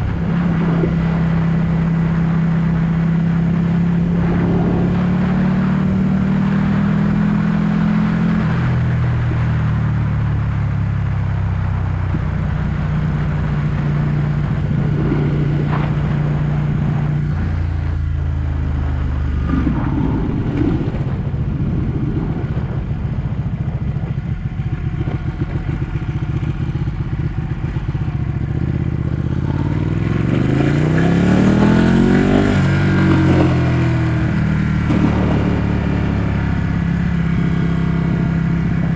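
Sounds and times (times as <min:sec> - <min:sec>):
wind rush: 0:00.0 - 0:09.2, 0:12.6 - 0:38.9
motorcycle engine crackling and revving: 0:00.0 - 0:38.9.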